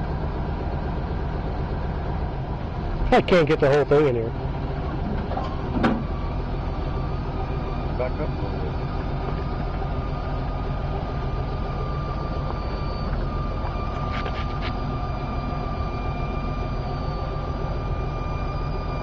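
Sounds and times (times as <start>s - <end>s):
truck engine drone: 0.0s - 19.0s
hydraulic whine: 2.8s - 19.0s.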